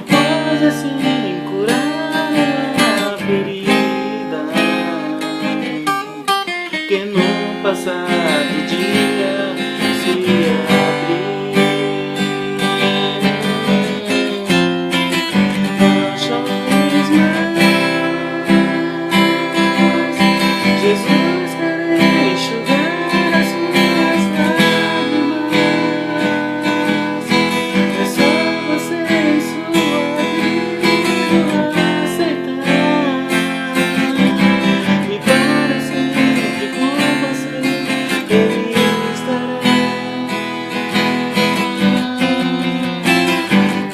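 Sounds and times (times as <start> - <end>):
strummed acoustic guitar music: 0.0 - 43.9.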